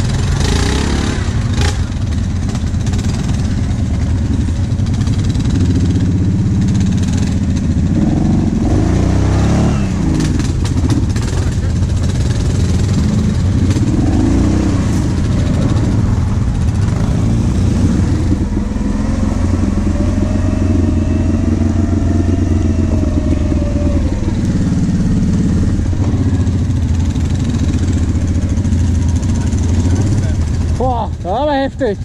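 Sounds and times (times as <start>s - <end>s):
quad bike engines running: 0.0s - 32.0s.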